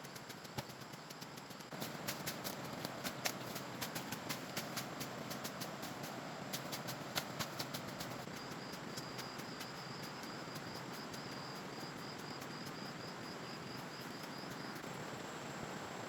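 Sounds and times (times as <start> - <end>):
steady rustling: 0.0 - 14.8
insects chirring: 0.0 - 16.0.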